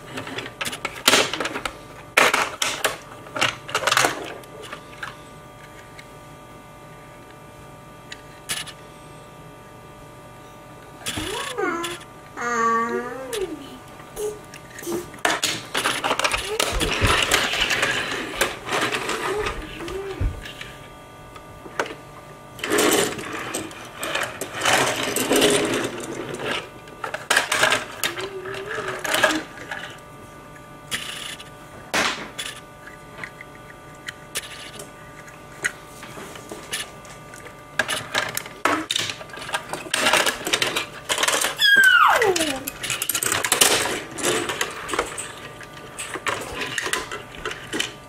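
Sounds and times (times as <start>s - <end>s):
plastic toys clicking and scraping: 0.0s - 6.0s, 8.1s - 8.8s, 11.0s - 12.1s, 13.2s - 20.8s, 21.7s - 22.0s, 22.6s - 31.5s, 32.3s - 48.0s.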